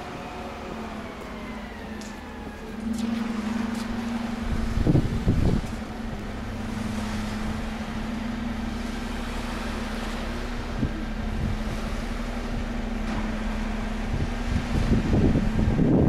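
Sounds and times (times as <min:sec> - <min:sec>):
low rumble: 0:00.0 - 0:16.0
steady mechanical hum: 0:00.0 - 0:16.0.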